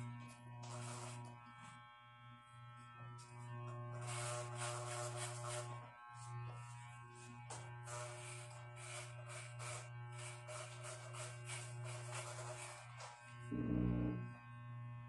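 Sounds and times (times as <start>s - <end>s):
electric hair clippers humming: 0.0s - 15.0s.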